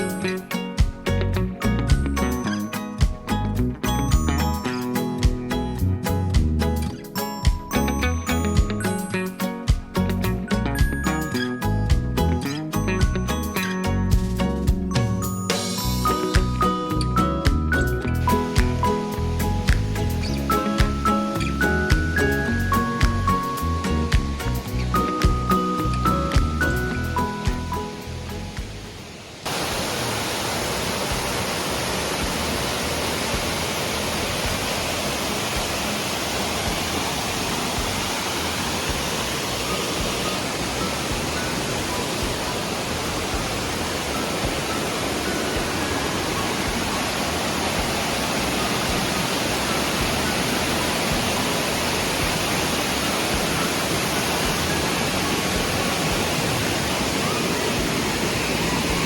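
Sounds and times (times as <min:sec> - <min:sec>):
music: 0:00.0 - 0:29.2, 0:37.3 - 0:59.0
creek water rushing: 0:00.0 - 0:59.0.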